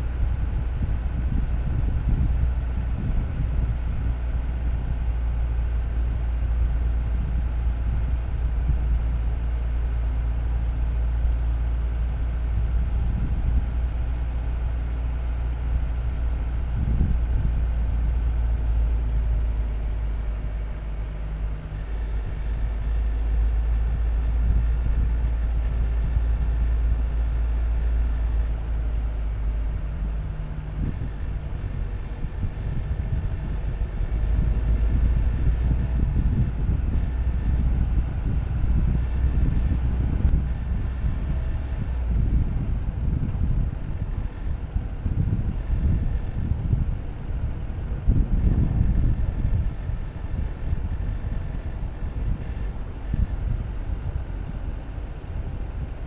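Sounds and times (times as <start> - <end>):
vehicle engine cruising: 0.0 - 56.0
wind noise on microphone: 0.0 - 56.0.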